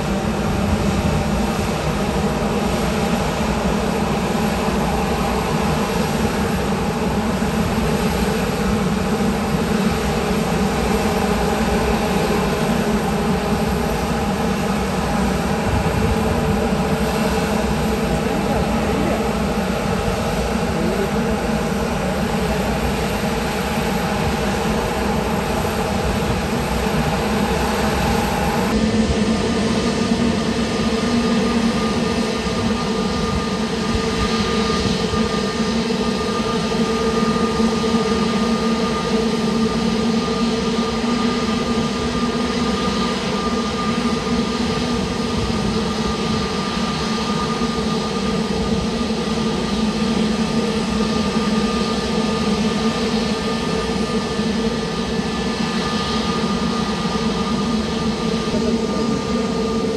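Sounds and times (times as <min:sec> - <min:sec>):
jet airliner engines running: 0:00.0 - 0:59.9.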